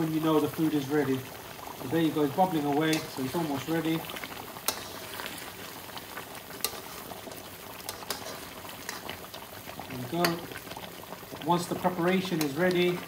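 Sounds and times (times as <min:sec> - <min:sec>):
curry sauce bubbling and sizzling: 0:00.0 - 0:13.0
ladle stirring sauce: 0:02.4 - 0:13.0.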